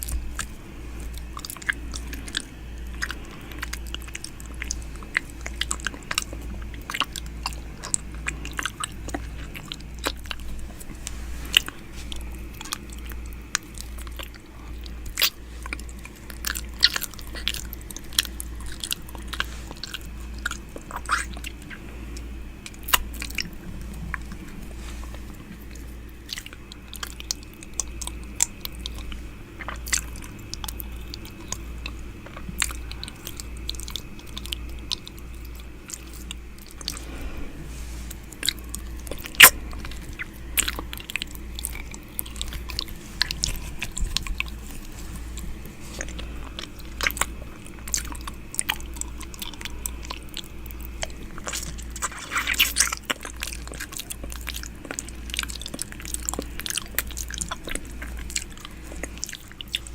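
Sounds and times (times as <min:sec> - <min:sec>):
wet mouth clicks and smacks: 0:00.0 - 0:37.0, 0:38.3 - 0:59.9
low steady hum: 0:00.0 - 0:59.9.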